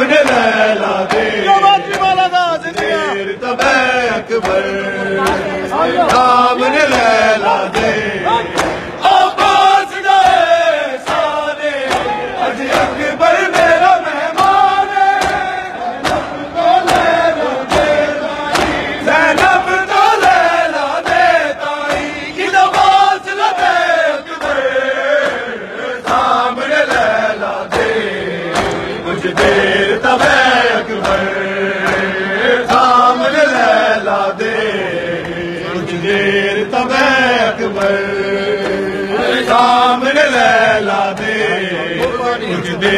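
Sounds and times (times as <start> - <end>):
men chanting together: 0.0 - 42.9
hands slapping chests: 0.1 - 5.5, 6.1 - 36.2, 36.9 - 38.9.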